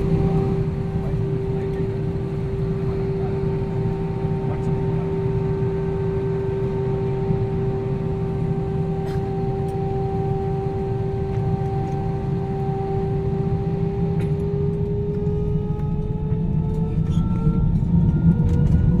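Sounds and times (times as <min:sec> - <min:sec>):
airliner cabin rumble: 0:00.0 - 0:19.0
steady whine: 0:00.0 - 0:19.0.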